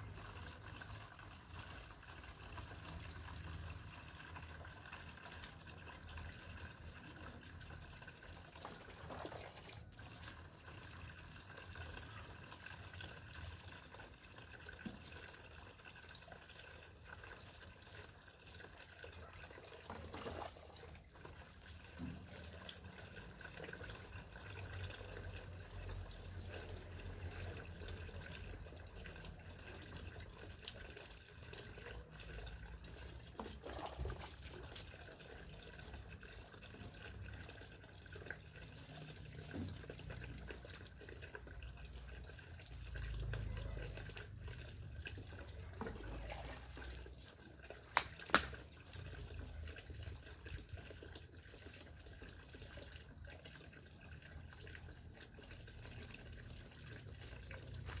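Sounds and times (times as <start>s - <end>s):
tap water running into plastic basin: 0.0s - 58.0s.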